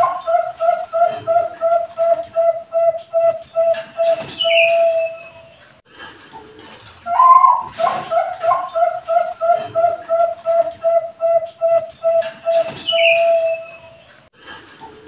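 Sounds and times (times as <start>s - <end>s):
dove cooing song: 0.0s - 5.6s, 7.0s - 14.1s.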